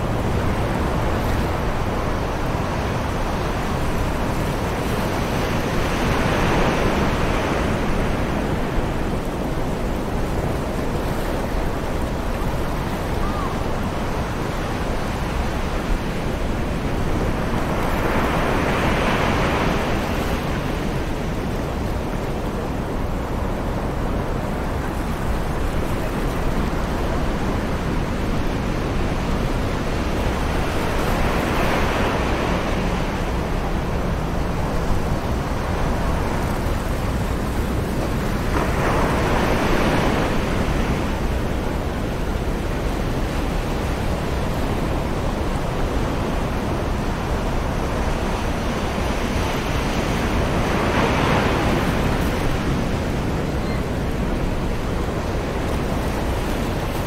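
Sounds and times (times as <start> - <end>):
distant ocean waves on beach: 0.0 - 57.0
low rumble of wind: 0.0 - 57.0.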